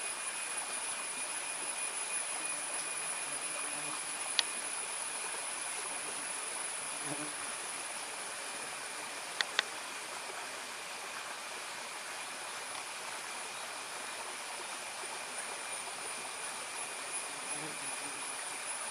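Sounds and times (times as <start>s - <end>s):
background hiss: 0.0s - 18.9s
high insect drone: 0.0s - 18.9s.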